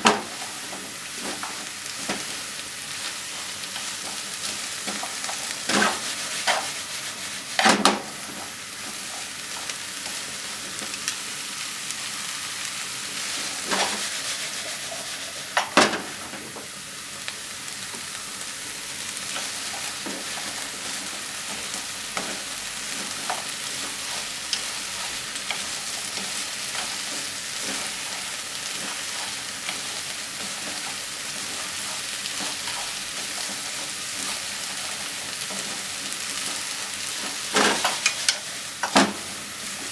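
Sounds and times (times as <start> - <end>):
food sizzling in frying pan: 0.0 - 39.9.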